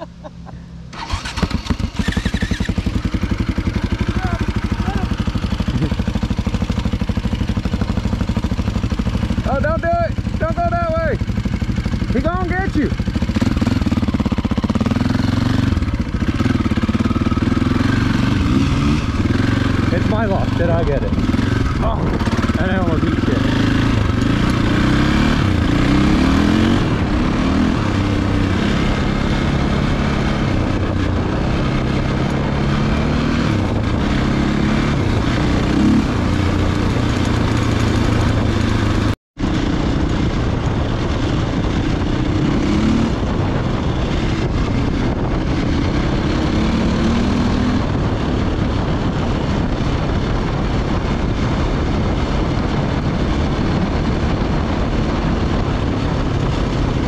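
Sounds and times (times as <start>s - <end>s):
dirt bike engine revving: 0.9s - 57.0s.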